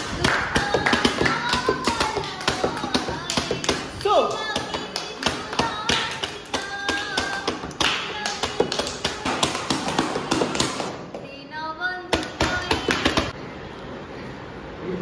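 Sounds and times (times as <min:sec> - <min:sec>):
rapid tapping and clapping: 0:00.0 - 0:11.3, 0:12.1 - 0:13.4.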